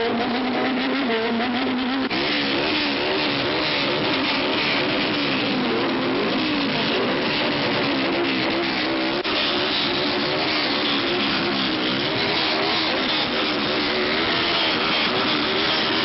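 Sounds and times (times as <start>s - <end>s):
engines revving: 0.0s - 16.0s.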